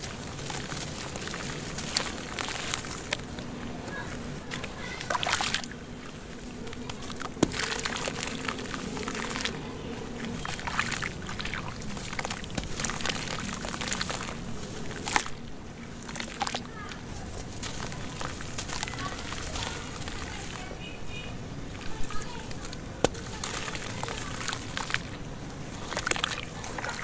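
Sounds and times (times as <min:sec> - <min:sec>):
hands swishing through muddy water: 0:00.0 - 0:20.9, 0:21.6 - 0:27.0
wet splashes: 0:00.0 - 0:27.0.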